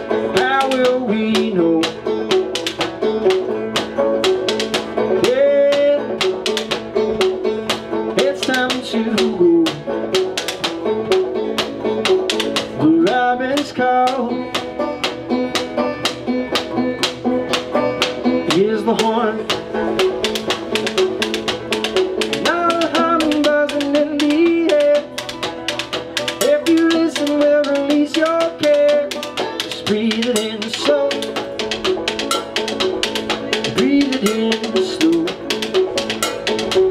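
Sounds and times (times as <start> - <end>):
banjo picking: 0.0 - 36.9
drumsticks tapping on wooden crate: 0.0 - 36.9
lap slide guitar: 0.0 - 36.9.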